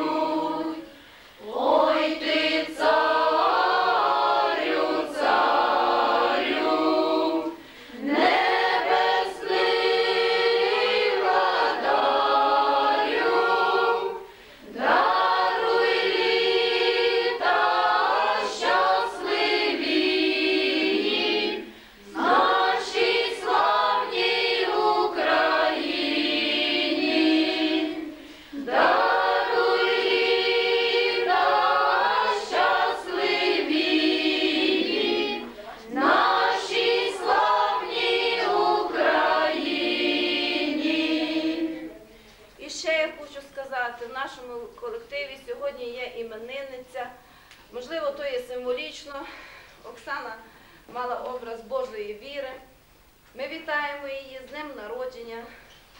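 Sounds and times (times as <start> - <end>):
women singing a cappella: 0.0 - 55.7.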